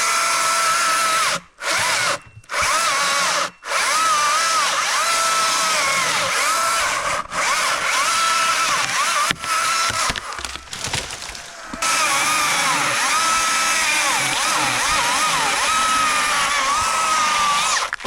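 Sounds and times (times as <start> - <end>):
electric chainsaw cutting wood: 0.0 - 18.0.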